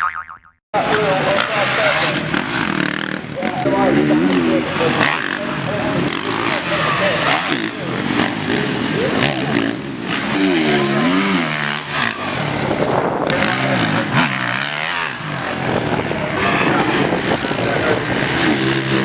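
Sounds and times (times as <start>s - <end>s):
background rush of noise: 0.8s - 19.0s
motocross bike engines revving: 0.8s - 19.0s.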